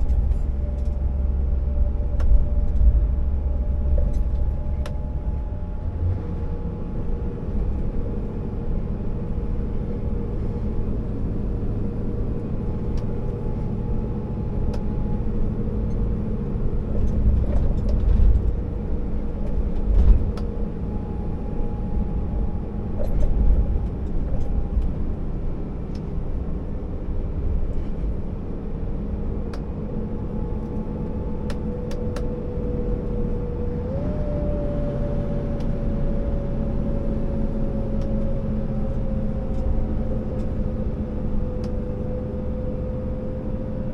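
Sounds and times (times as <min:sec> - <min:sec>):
constant whine: 0:00.0 - 0:43.9
truck diesel engine rumbling: 0:00.0 - 0:43.9.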